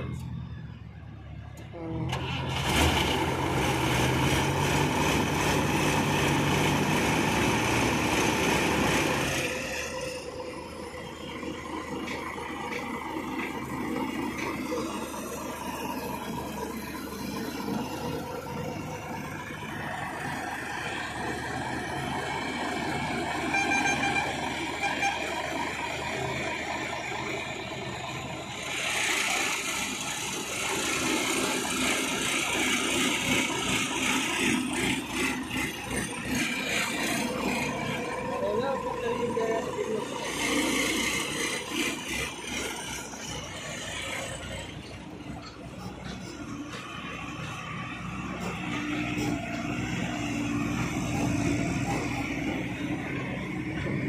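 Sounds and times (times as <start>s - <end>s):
diesel engine running: 0.0s - 54.0s
engine rattling: 0.0s - 54.0s.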